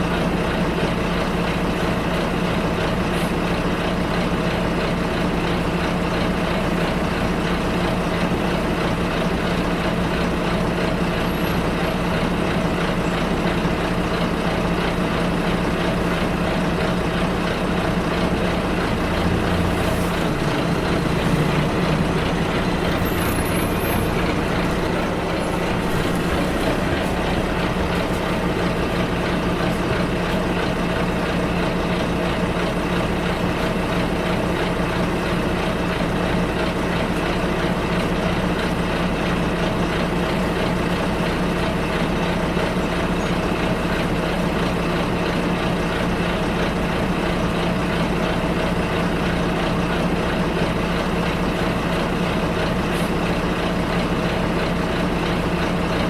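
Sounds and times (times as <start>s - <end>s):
bus engine humming: 0.0s - 56.0s
rumble of bus ride: 0.0s - 56.0s.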